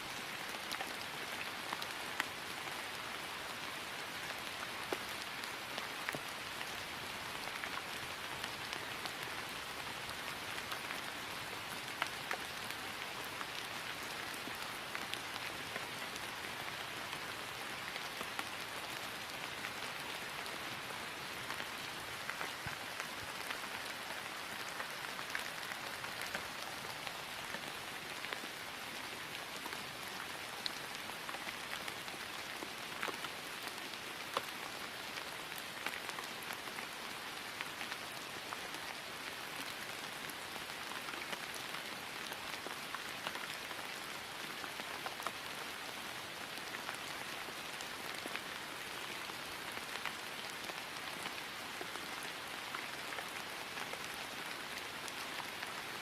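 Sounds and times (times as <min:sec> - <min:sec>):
rain falling on grass: 0:00.0 - 0:56.0.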